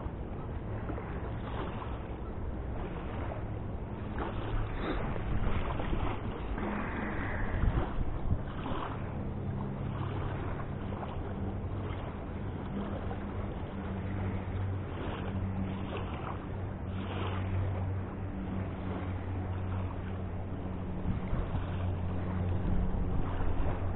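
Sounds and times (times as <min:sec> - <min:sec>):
faint low hum: 0:00.0 - 0:23.9
flowing river: 0:00.0 - 0:23.9
wind on microphone: 0:00.0 - 0:23.9.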